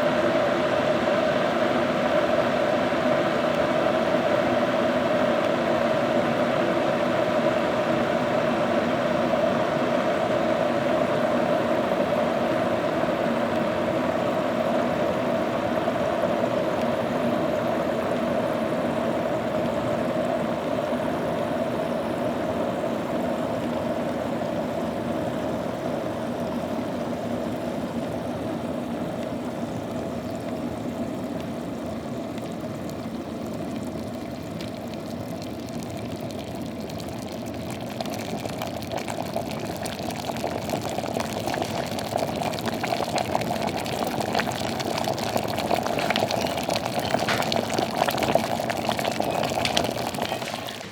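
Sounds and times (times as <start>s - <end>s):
water boiling in a kettle: 0.0s - 50.9s.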